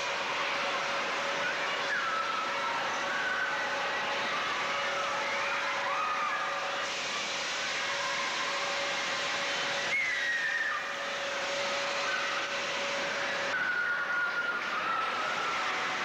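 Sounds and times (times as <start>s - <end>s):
arcade hubbub: 0.0s - 16.0s.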